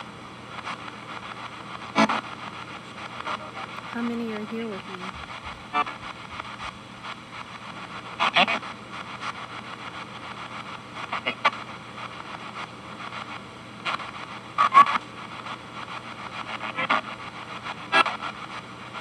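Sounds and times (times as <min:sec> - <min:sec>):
chopped radio broadcast fragments: 0:00.0 - 0:19.0
static hiss: 0:00.0 - 0:19.0.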